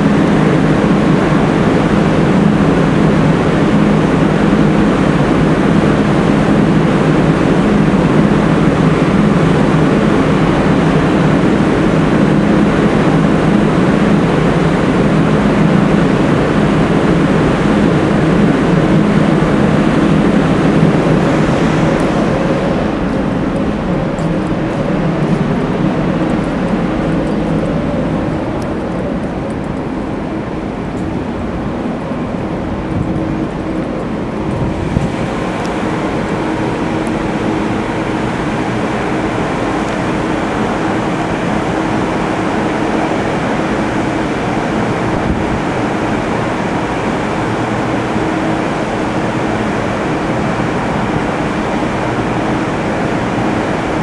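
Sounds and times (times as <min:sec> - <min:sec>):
ship machinery drone: 0:00.0 - 0:54.0.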